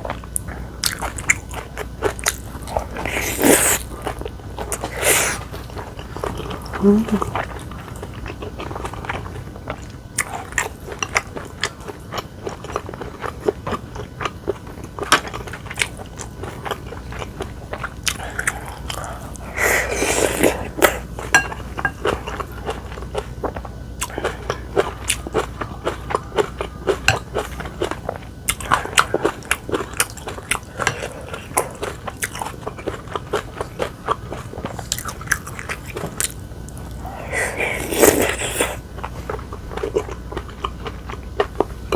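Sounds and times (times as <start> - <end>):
person chewing and biting food: 0.0 - 41.9.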